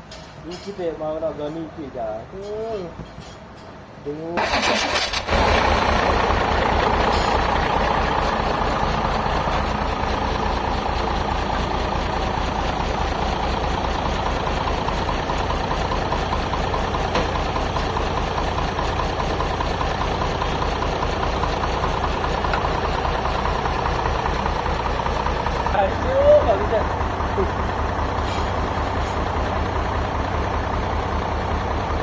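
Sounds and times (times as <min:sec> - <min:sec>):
forklift engine idling: 0:04.4 - 0:32.0.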